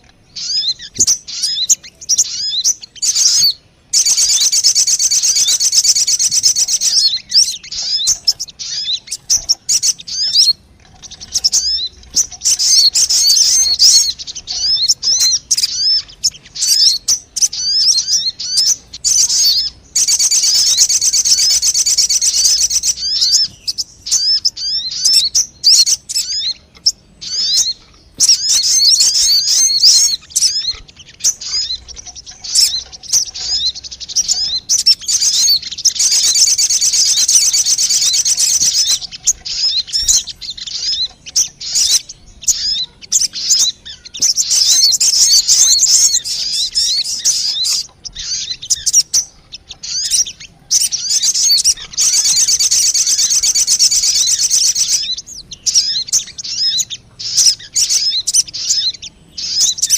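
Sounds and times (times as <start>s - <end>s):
bird chirping and chip notes: 0.0s - 59.9s
dense bird trill: 0.0s - 59.9s.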